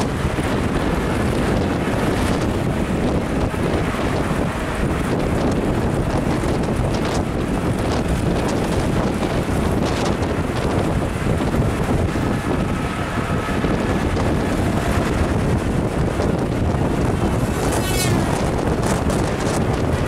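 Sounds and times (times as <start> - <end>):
vehicle engine and tyre rumble: 0.0 - 20.0
wind buffeting microphone: 0.0 - 20.0.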